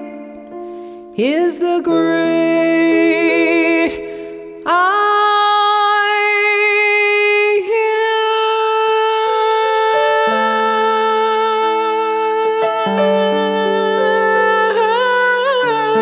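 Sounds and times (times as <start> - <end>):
backing track chords: 0.0 - 16.0.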